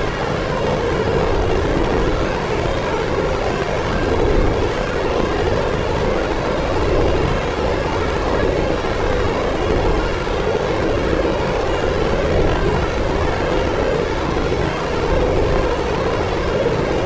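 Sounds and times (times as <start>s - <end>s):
dark ambient drone: 0.0s - 17.0s.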